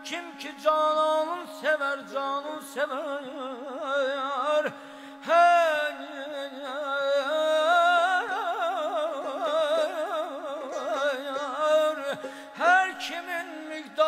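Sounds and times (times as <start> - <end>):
person singing ornamented melody: 0.0 - 14.0.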